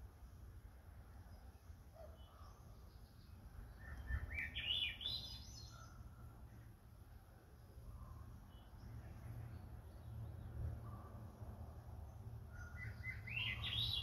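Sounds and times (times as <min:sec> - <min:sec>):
faint bird chirps: 0:01.1 - 0:06.8, 0:07.6 - 0:14.0.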